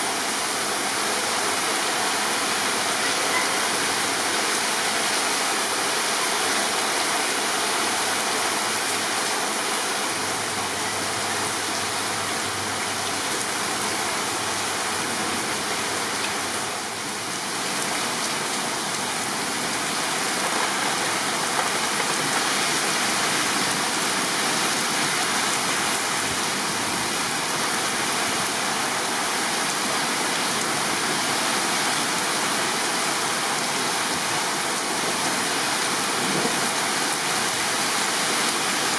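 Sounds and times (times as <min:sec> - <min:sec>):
torrential rain pouring: 0:00.0 - 0:38.9.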